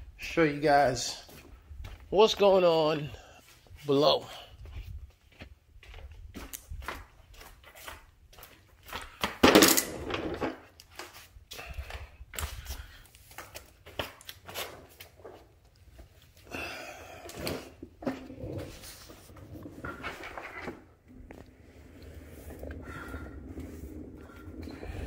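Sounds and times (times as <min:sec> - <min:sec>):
footsteps on plastic floor tiles: 0:01.2 - 0:04.0, 0:04.6 - 0:09.5, 0:10.4 - 0:16.4, 0:17.5 - 0:24.9.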